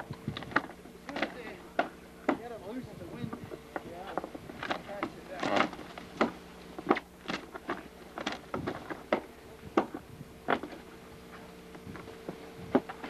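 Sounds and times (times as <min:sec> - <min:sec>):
knocks of wood and tools: 0:00.0 - 0:10.9, 0:11.8 - 0:13.0.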